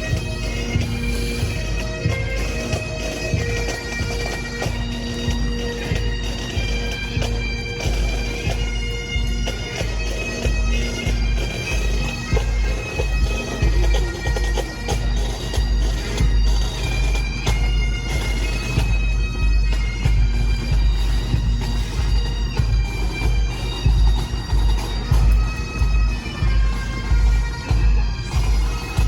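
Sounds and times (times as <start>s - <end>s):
bagpipes playing: 0.0s - 29.0s.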